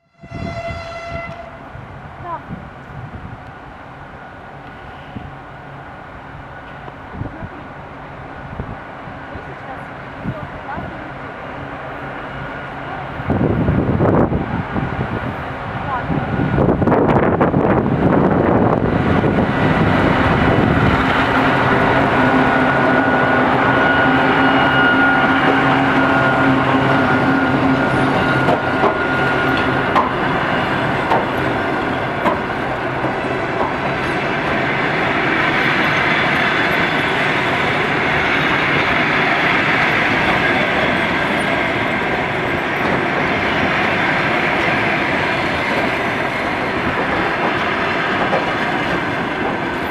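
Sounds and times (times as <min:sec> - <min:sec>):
diesel locomotive drone: 0:00.0 - 0:49.9
locomotive whine: 0:00.0 - 0:49.9
train wheels rolling: 0:03.4 - 0:49.9.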